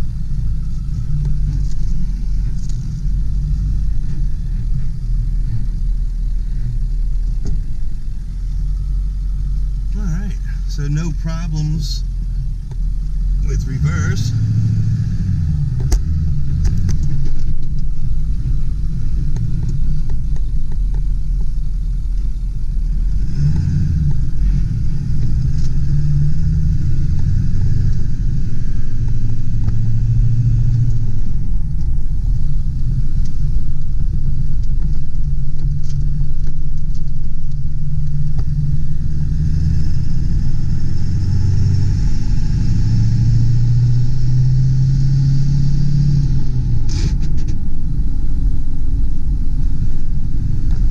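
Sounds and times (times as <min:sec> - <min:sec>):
diesel truck engine driving: 0:00.0 - 0:50.9.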